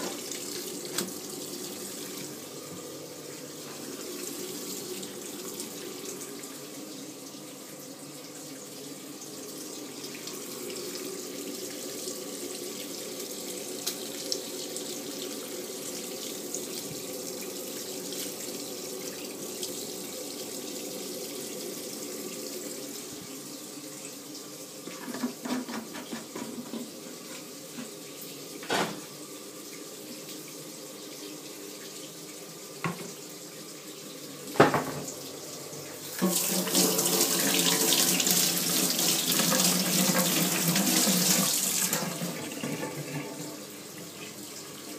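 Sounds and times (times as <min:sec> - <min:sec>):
water rushing in washing machine: 0:00.0 - 0:44.9.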